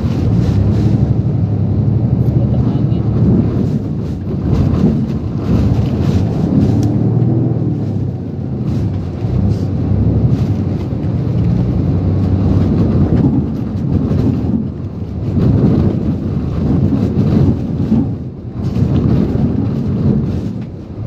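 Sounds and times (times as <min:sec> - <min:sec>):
typhoon wind: 0:00.0 - 0:21.0.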